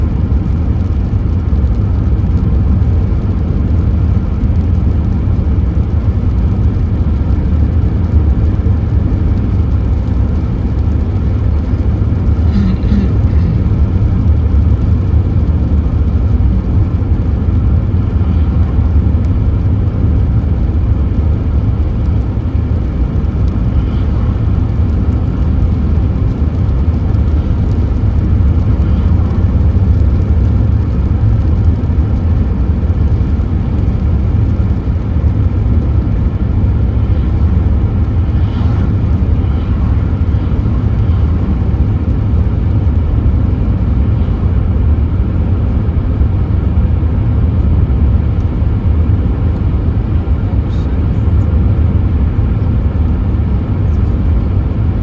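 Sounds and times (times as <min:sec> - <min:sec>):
loud low vehicle rumble: 0:00.0 - 0:55.0.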